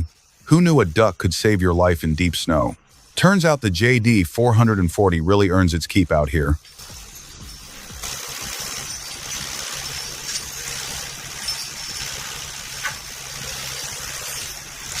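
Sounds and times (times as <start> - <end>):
steady hiss: 0.0 - 4.6, 5.2 - 15.0.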